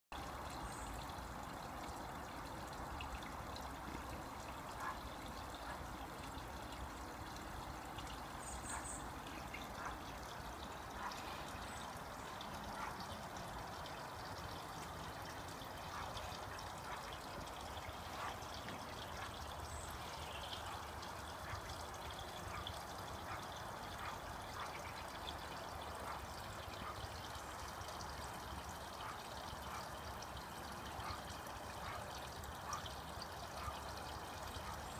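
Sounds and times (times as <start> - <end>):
small water drips: 0.1 - 34.9
water trickling into a pond: 0.1 - 34.9.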